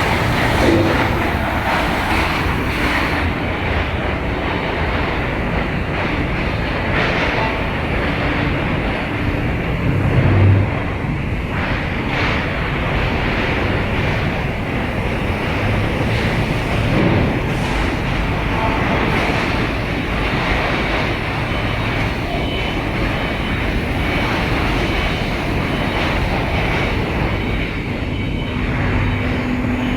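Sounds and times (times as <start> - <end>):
industrial machinery roaring: 0.0 - 29.9.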